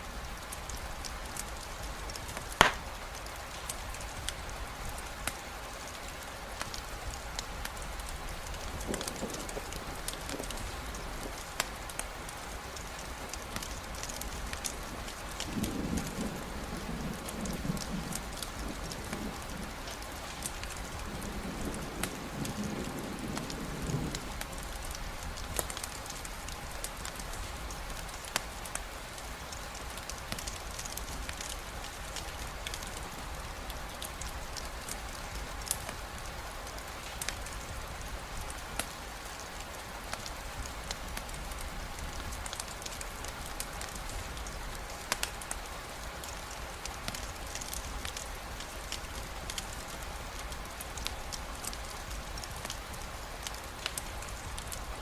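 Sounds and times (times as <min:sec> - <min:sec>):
campfire crackling: 0:00.0 - 0:55.0
steady rain: 0:00.0 - 0:55.0.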